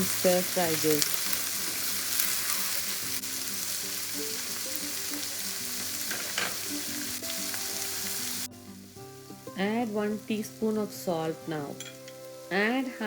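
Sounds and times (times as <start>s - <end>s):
soft background music: 0.0s - 13.0s
vegetables sizzling in oil: 0.0s - 13.0s.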